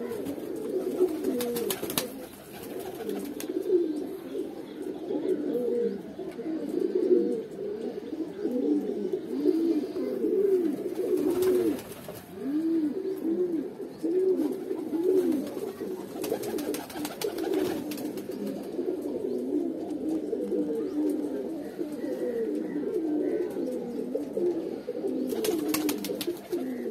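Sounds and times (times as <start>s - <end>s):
pigeons cooing: 0.0s - 26.9s.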